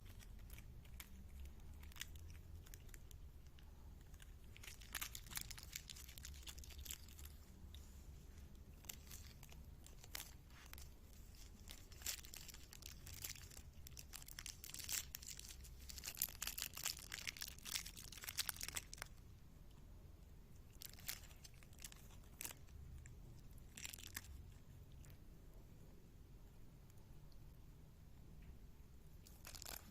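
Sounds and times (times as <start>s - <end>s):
cat chewing crinkly plastic: 0.0s - 19.4s, 20.5s - 25.3s, 29.2s - 29.9s.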